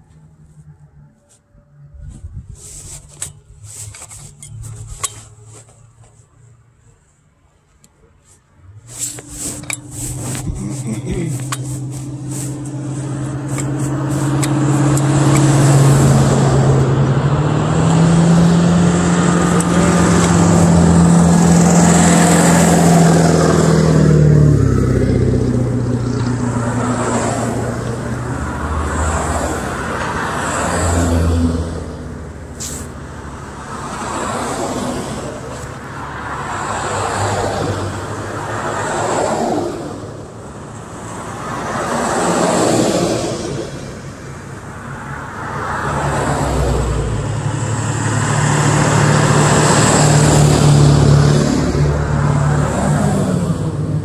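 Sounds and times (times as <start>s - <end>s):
tow vehicle engine: 0.0s - 54.0s
tyre and road noise: 0.0s - 54.0s
vehicles passing on road: 0.0s - 54.0s.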